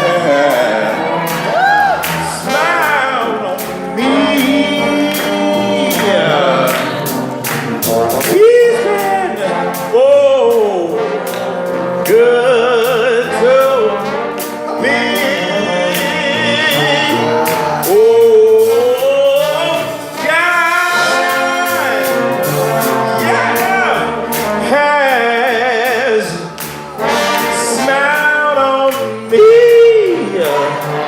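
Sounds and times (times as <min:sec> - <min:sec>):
band accompaniment: 0:00.0 - 0:31.0
lead voice singing: 0:00.0 - 0:31.0
percussion strokes: 0:00.0 - 0:31.0.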